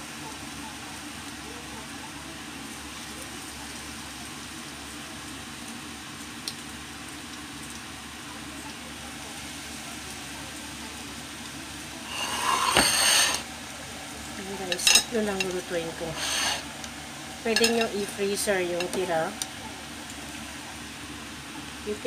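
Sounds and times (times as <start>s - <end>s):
croquettes sizzling in hot oil: 0.0s - 22.0s.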